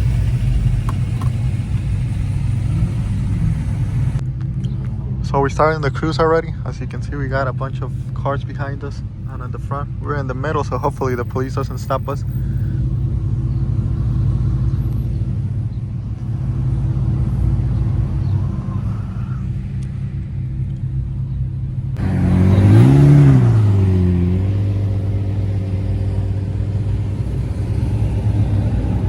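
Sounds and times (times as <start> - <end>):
car engine droning while driving: 0.0 - 29.0
engine revving: 0.0 - 29.0.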